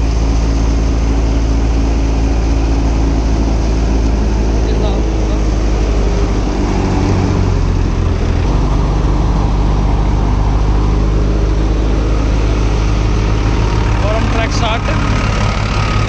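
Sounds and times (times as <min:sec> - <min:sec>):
tractor engine drone: 0:00.0 - 0:16.0.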